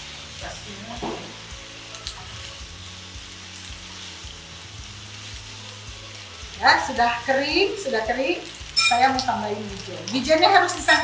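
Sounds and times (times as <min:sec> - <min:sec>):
chicken wings sizzling in a wok: 0:00.0 - 0:11.0.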